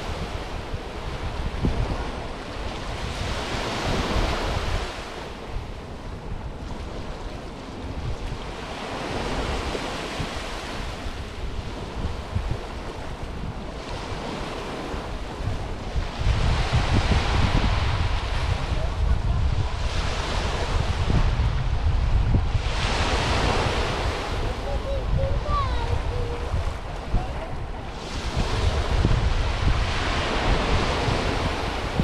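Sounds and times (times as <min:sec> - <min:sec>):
waves washing on sandy beach: 0:00.0 - 0:32.0
wind buffeting microphone: 0:00.0 - 0:32.0.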